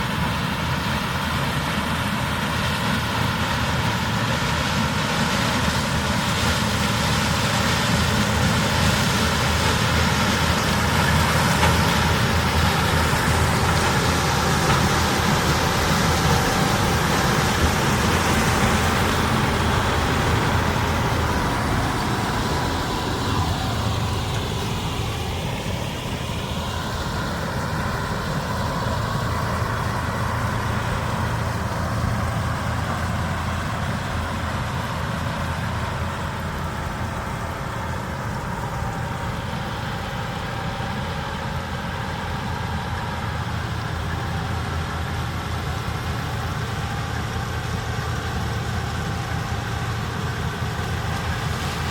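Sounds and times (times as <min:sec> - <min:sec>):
farm machinery engines running: 0:00.0 - 0:51.9.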